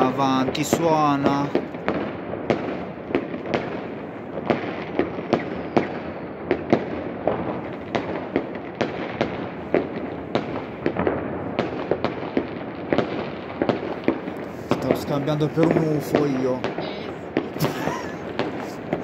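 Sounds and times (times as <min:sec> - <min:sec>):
firecrackers crackling: 0:00.0 - 0:19.0
fireworks bangs: 0:00.0 - 0:19.0.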